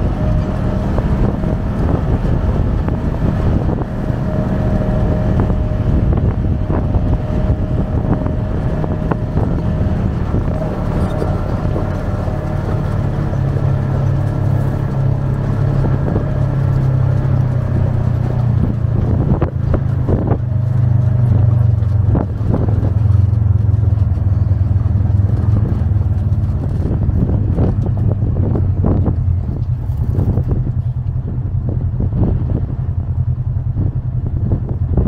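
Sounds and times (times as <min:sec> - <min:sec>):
off-road vehicle engine running: 0:00.0 - 0:35.0.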